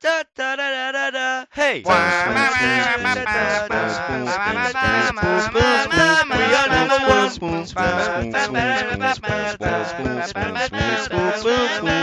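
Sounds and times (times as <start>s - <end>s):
vocal percussion beat: 1.7s - 12.0s
layered a cappella singing: 1.8s - 12.0s.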